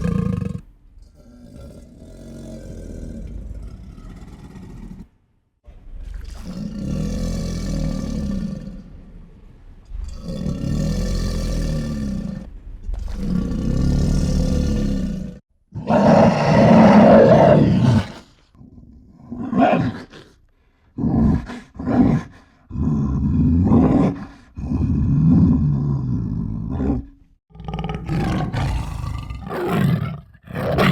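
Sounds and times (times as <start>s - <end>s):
lion grunting roars: 0.0s - 30.9s
lion roaring: 0.0s - 30.9s.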